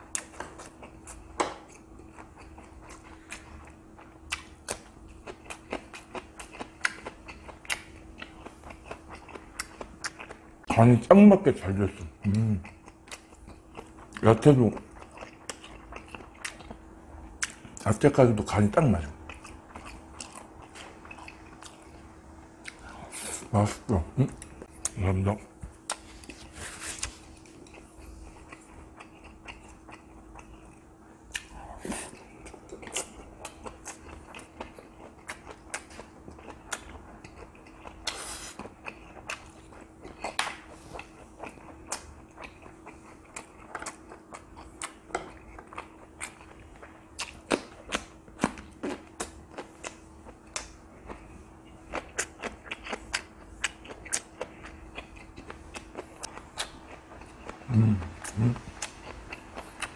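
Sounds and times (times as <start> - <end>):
person chewing food: 0.0 - 10.8, 12.0 - 17.8, 19.0 - 59.9
faint steady hum: 0.0 - 59.9.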